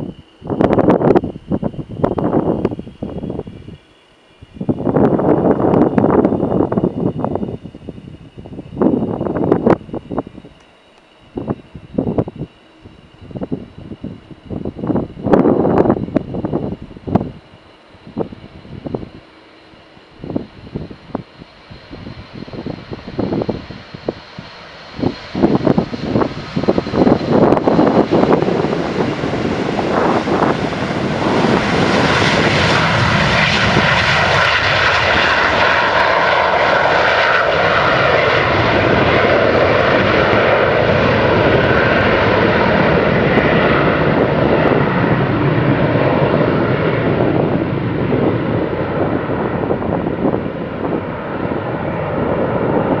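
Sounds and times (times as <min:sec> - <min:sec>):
jet aircraft taking off: 0:00.0 - 0:53.0.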